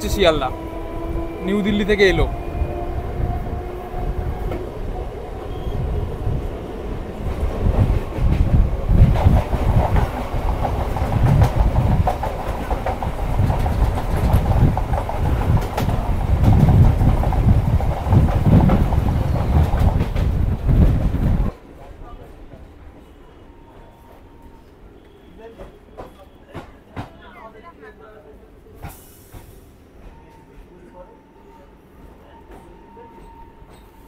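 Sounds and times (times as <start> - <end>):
passing trains alongside: 0.0 - 34.0.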